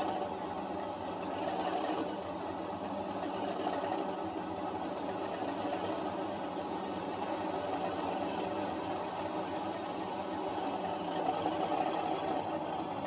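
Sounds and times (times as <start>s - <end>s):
diesel engine idle through small speaker: 0.0s - 13.0s.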